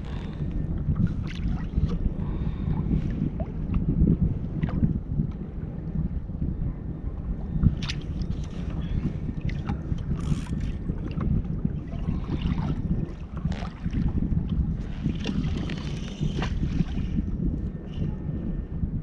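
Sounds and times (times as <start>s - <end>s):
water lapping at kayak hull: 0.0s - 18.6s
wind buffeting microphone: 0.0s - 19.0s.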